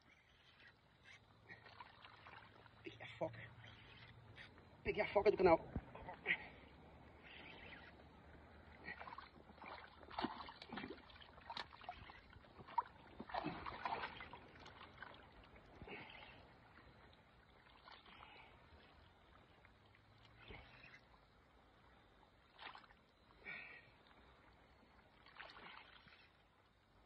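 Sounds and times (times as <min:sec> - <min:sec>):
faint water splashing: 0:00.0 - 0:27.0.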